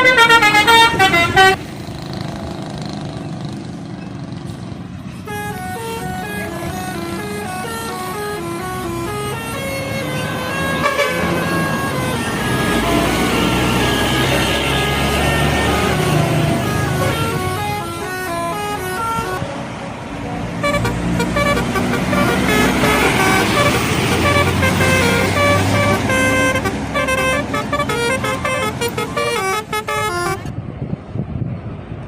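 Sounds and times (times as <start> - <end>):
melodic bus horn: 0.0 - 1.7, 5.2 - 19.6, 20.5 - 30.5
bus engine running: 0.0 - 32.0.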